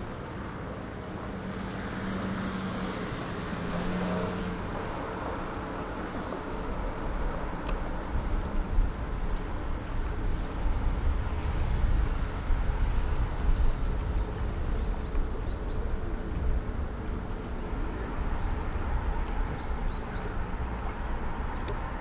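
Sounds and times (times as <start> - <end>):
distant ferry engines droning: 0.0 - 22.0.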